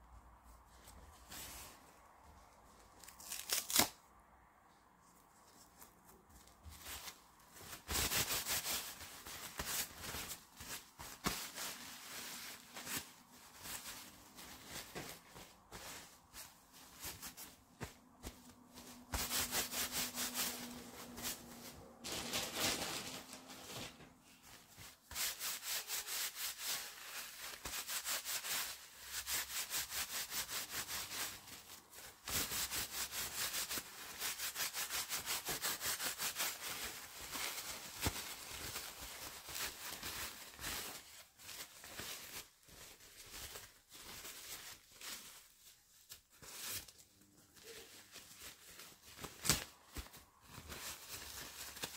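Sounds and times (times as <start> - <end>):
diaper crinkling and rustling: 0.8 - 4.0, 5.4 - 29.3, 30.9 - 51.9.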